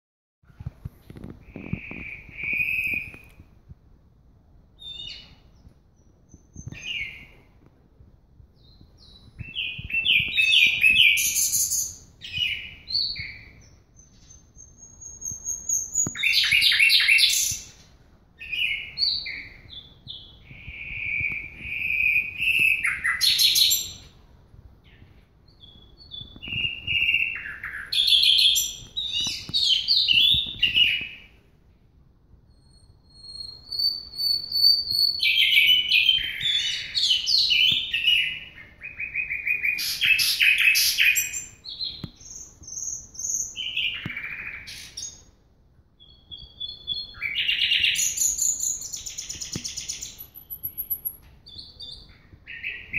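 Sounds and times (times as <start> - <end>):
bird singing whistles and trills: 1.2 - 3.5, 4.8 - 7.5, 8.6 - 17.8, 18.4 - 24.1, 24.8 - 31.4, 32.5 - 45.3, 46.0 - 52.9.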